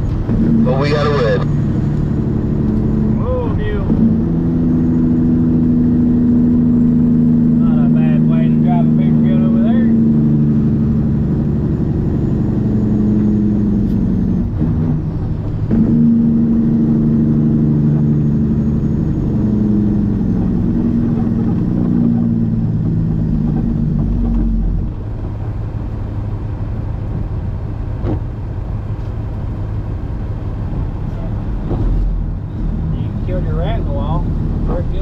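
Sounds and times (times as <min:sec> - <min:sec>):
truck diesel engine under load: 0:00.0 - 0:35.0.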